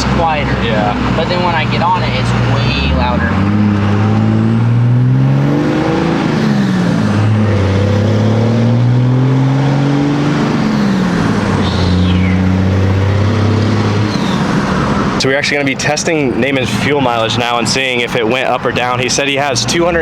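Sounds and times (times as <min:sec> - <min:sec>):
diesel truck accelerating: 0:00.0 - 0:20.0.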